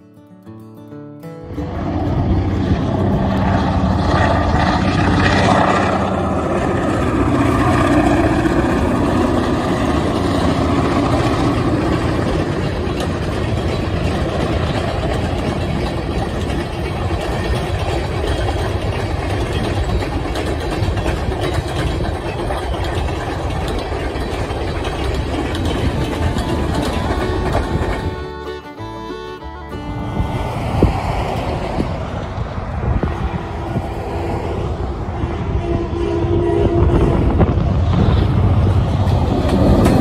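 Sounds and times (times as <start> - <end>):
diesel locomotive engine: 1.2 - 40.0
freight cars rolling on rails: 1.6 - 40.0.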